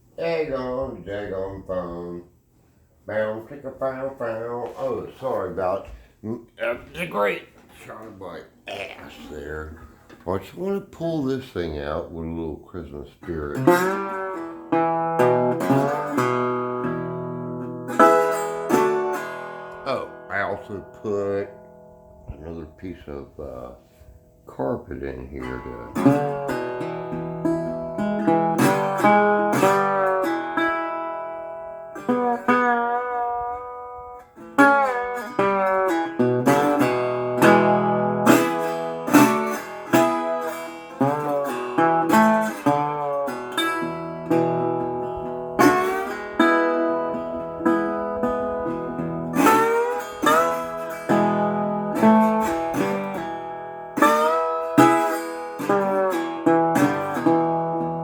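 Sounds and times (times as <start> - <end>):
bluesy solo guitar: 8.2 - 58.0.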